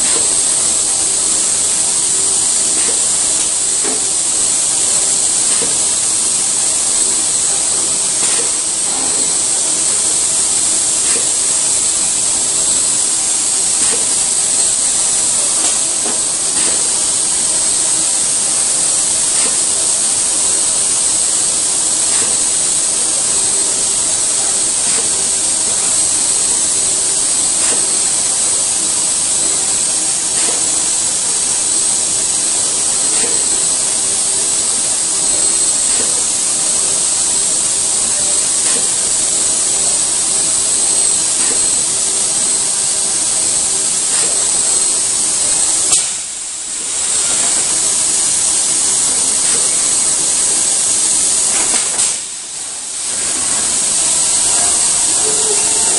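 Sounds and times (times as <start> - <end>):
assembly line machine hiss: 0.0 - 55.9
faint steady hum: 0.0 - 55.9.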